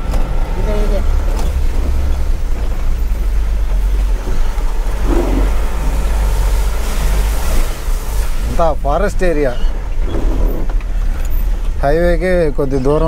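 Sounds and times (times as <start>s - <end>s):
truck engine drone in cab: 0.0s - 13.0s.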